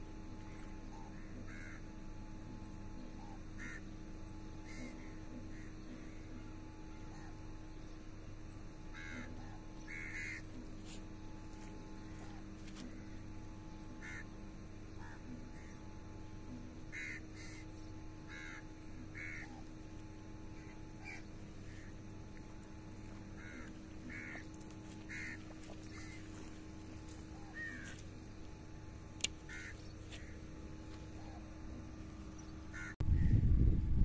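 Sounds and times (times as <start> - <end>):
faint steady hum: 0.0 - 34.0
crows cawing: 0.4 - 2.4, 3.0 - 7.6, 8.8 - 33.3.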